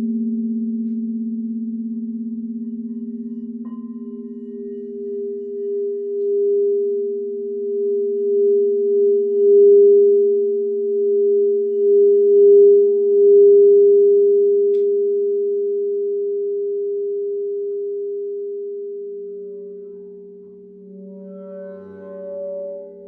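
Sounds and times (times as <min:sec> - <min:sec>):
crystal singing bowls ringing: 0:00.0 - 0:23.0.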